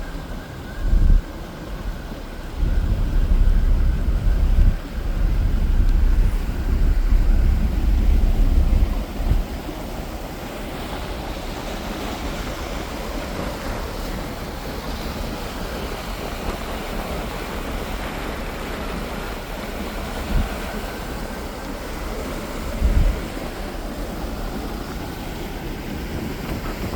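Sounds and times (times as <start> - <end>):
ferry engine rumble: 0.0 - 26.9
water washing: 0.0 - 26.9
wind buffeting microphone: 0.0 - 26.9.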